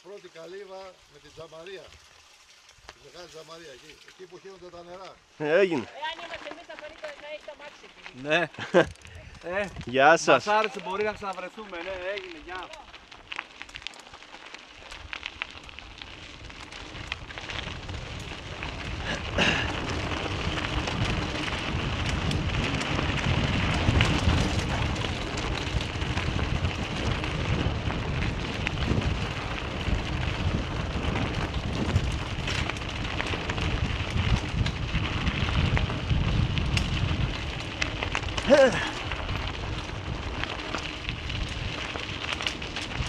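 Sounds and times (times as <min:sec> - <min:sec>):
tyres crunching over gravel: 0:01.5 - 0:43.0.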